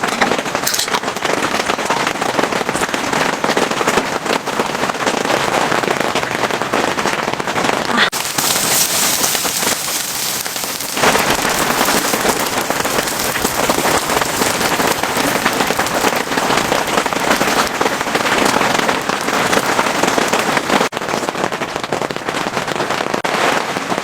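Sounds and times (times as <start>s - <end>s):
heavy rain pattering: 0.0s - 24.0s.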